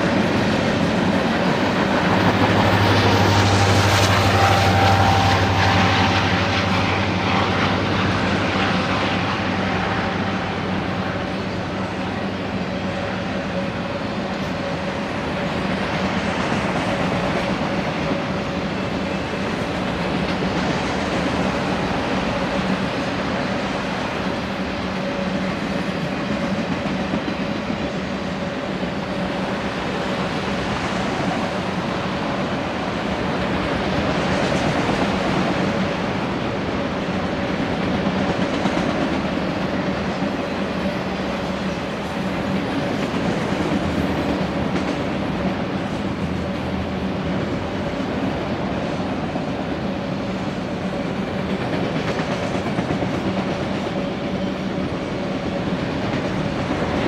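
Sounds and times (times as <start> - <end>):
steel wheels on track: 0.0 - 57.0.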